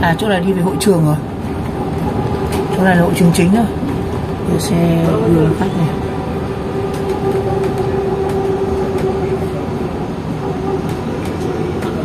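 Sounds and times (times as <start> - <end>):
bus road rumble: 0.0 - 12.0.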